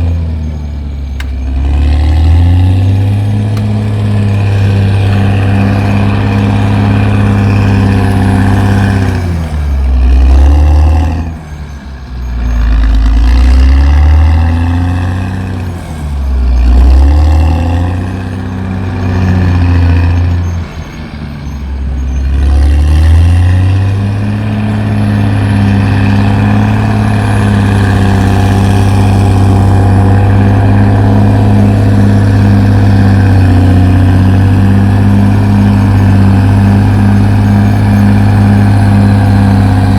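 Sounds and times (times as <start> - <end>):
bulldozer diesel engine running hard: 0.0 - 39.9.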